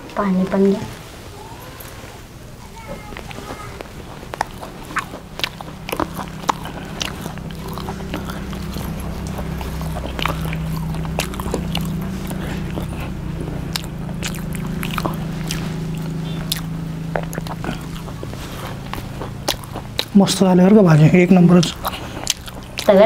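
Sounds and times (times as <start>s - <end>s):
low hum: 0.0s - 23.0s
person chewing: 2.7s - 23.0s.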